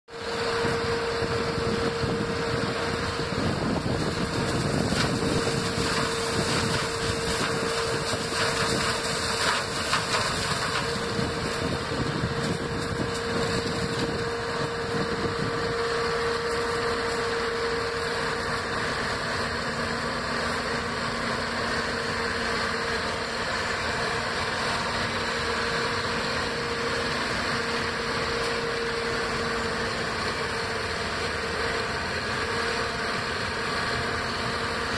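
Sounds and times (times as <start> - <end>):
constant whine: 0.1 - 34.9
harvester engine drone: 0.1 - 34.9.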